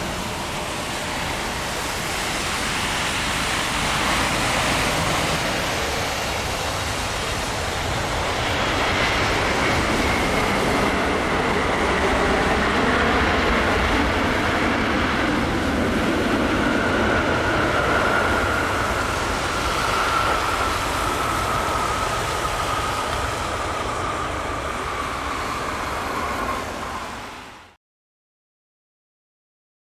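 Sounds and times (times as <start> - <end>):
jet engine rush and whine: 0.0 - 27.8.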